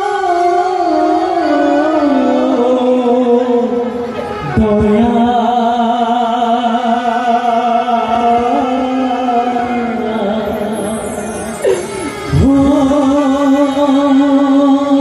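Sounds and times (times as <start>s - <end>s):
man singing long wavering note: 0.0s - 15.0s.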